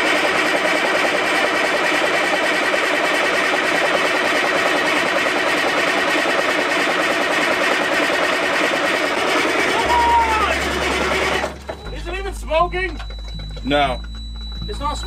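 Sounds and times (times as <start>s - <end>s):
truck engine cranking on starter: 0.0s - 14.6s.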